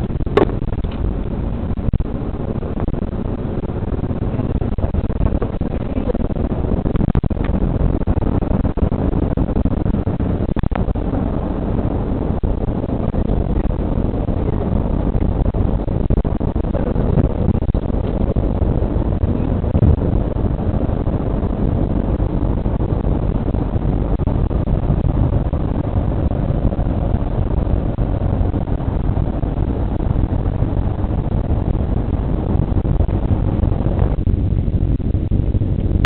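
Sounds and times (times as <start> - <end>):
car road and engine noise: 0.0 - 36.0.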